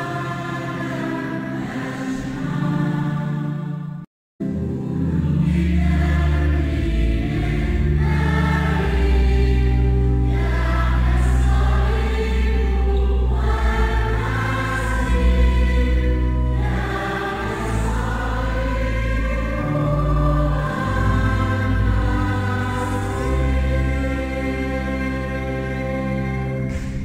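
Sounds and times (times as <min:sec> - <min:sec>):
choir singing a hymn: 0:00.0 - 0:27.0
low organ notes: 0:00.0 - 0:27.0.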